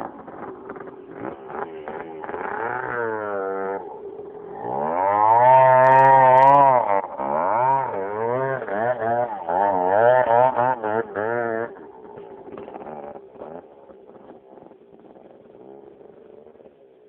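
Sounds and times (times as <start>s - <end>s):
two-stroke engine revving: 0.0s - 17.0s.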